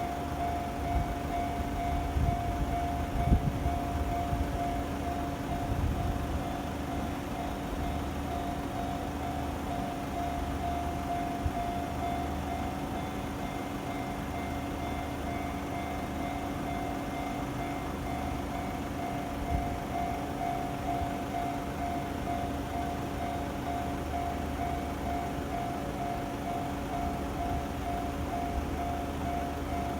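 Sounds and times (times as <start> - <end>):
level-crossing alarm bell: 0.0 - 29.9.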